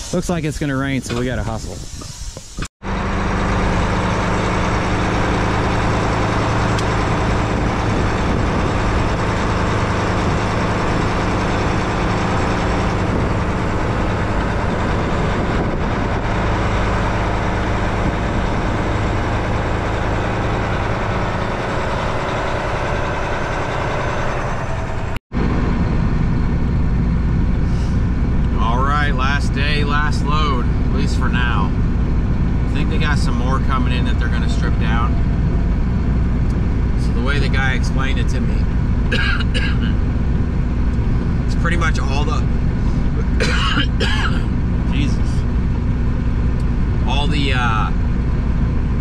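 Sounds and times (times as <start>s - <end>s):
steady cab noise: 0.0s - 49.0s
truck diesel engine droning: 2.8s - 49.0s.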